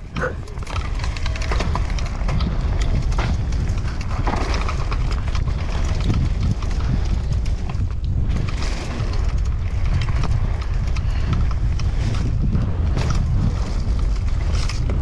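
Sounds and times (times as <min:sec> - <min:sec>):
bike rattling over bumps: 0:00.0 - 0:15.0
bike tyres crackling over leaves: 0:00.0 - 0:15.0
wind rumble on microphone: 0:00.0 - 0:15.0.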